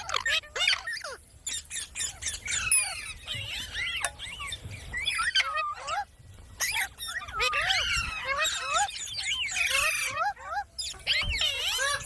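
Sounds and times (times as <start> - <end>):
parrot squawking and chattering: 0.0 - 12.0.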